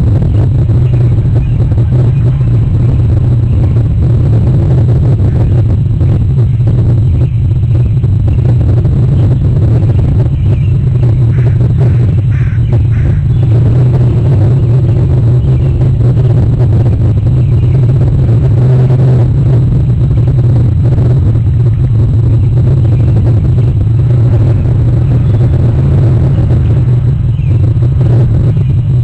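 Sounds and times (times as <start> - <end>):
loud low rumble: 0.0 - 29.0.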